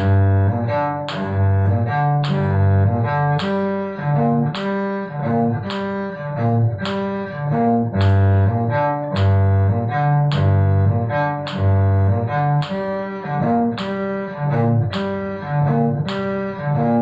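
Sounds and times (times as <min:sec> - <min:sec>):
cello playing arpeggios: 0:00.0 - 0:17.0.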